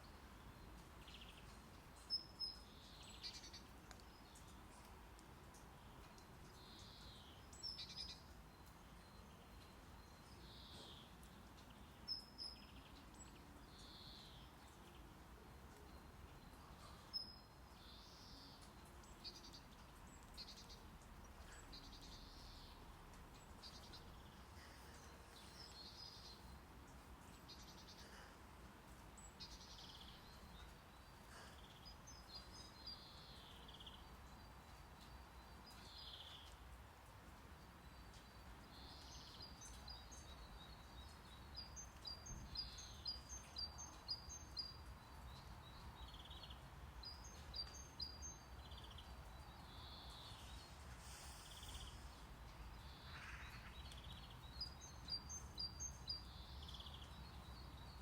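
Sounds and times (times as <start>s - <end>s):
faint birdsong chirps: 0.0s - 58.0s.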